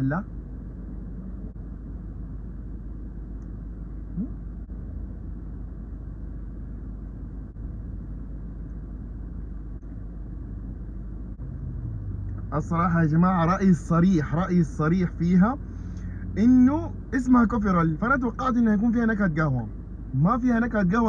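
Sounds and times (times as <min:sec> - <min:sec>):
car cabin engine idling rumble: 0:00.0 - 0:21.0.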